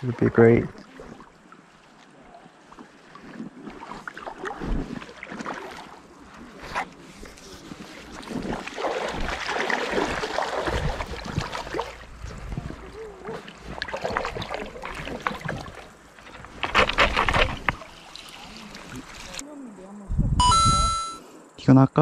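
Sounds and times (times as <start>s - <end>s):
water splashing and sloshing: 0.0s - 19.6s.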